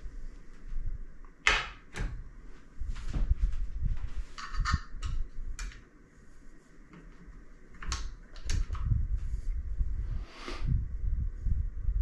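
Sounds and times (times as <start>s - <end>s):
low rumbling handling noise: 0.0s - 12.0s.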